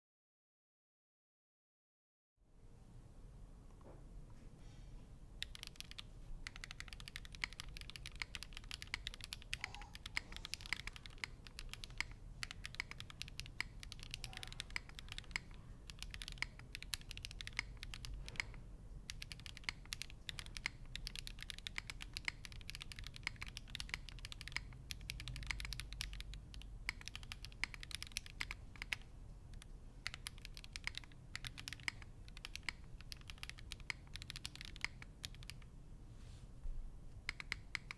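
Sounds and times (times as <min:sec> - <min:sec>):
mechanical keyboard typing: 0:05.4 - 0:35.7, 0:37.2 - 0:37.9.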